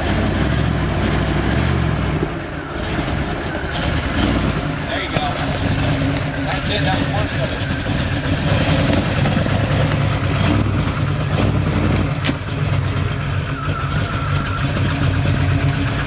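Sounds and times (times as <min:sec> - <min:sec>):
buggy engine running under load: 0:00.0 - 0:16.0.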